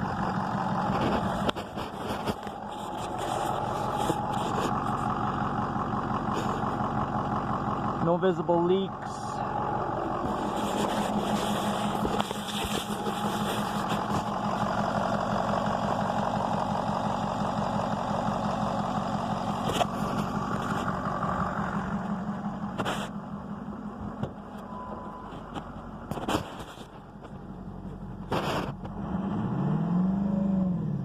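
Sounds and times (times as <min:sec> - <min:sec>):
diesel engine idling: 0:00.0 - 0:29.1.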